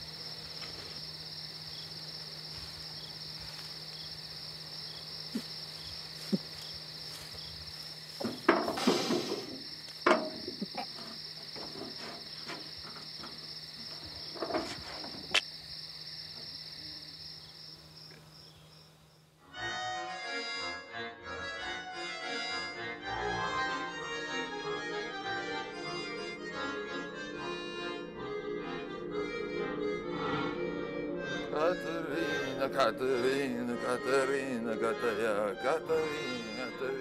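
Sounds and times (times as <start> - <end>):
crickets chirping: 0.0 - 20.4, 21.4 - 37.0.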